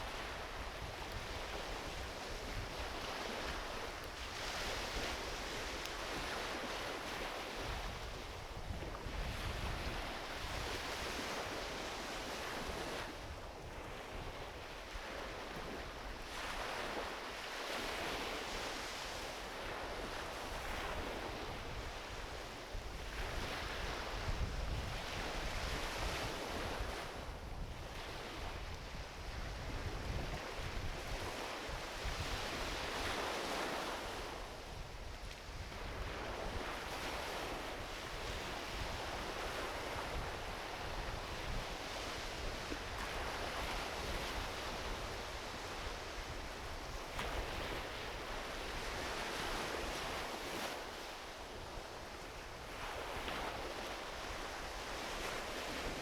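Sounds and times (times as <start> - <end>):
small waves washing onto beach: 0.0 - 56.0
wind rumble on microphone: 0.0 - 56.0.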